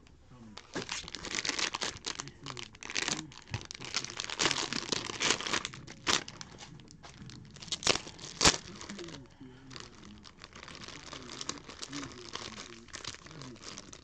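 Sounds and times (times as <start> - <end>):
foil wrapper tearing: 0.6 - 14.0
plastic wrapping crinkling: 0.6 - 14.0.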